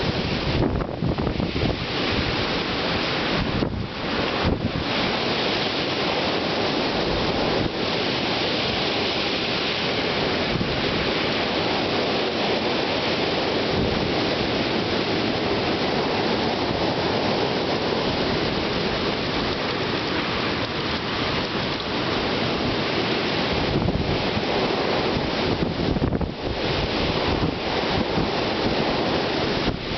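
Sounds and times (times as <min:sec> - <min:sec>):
heavy rain: 0:00.0 - 0:29.9
wind buffeting microphone: 0:00.0 - 0:29.9.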